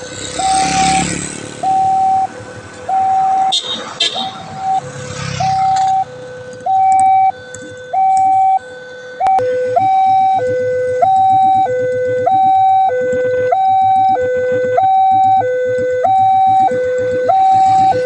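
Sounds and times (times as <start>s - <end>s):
two-tone crossing alarm: 0.0s - 18.0s.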